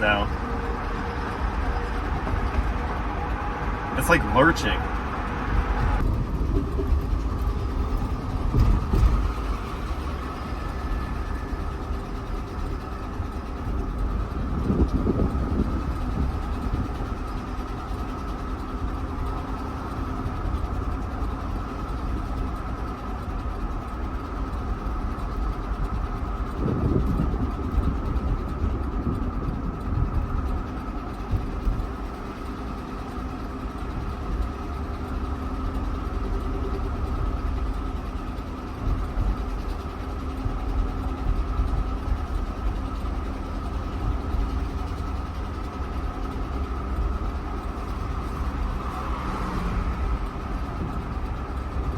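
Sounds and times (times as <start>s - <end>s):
engine rumble with rod knock: 0.0s - 51.9s.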